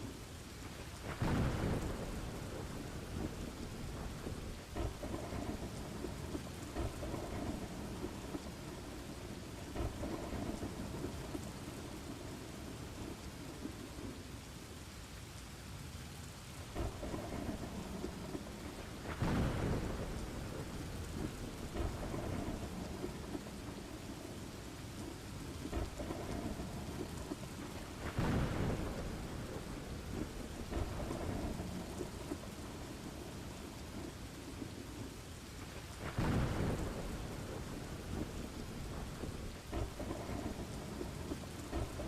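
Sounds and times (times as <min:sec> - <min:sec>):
steady rain: 0:00.0 - 0:42.0
rolling thunder: 0:01.0 - 0:14.0, 0:16.7 - 0:42.0.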